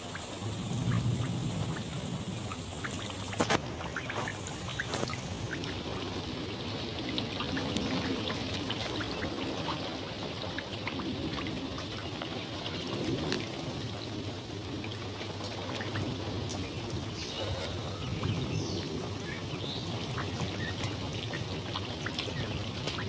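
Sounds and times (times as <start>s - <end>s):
steady rain: 0.0s - 23.0s
water pouring and trickling: 0.0s - 23.0s
small drip ticks: 0.1s - 6.1s, 6.9s - 17.1s, 17.8s - 23.0s.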